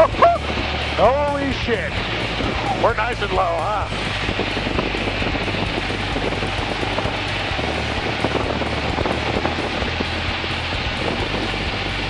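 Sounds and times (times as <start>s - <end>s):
airplane engine drone: 0.0s - 12.0s
rushing airflow: 0.0s - 12.0s.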